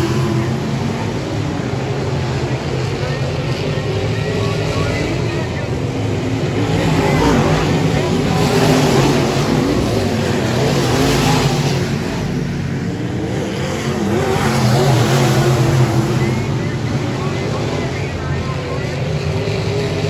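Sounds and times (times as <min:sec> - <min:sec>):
race car engines lapping: 0:00.0 - 0:20.0.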